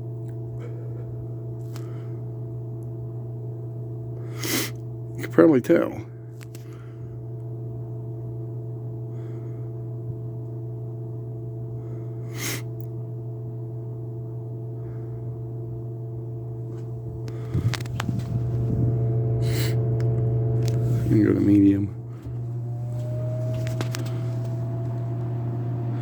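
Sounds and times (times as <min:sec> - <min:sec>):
fan motor humming: 0:00.0 - 0:26.0.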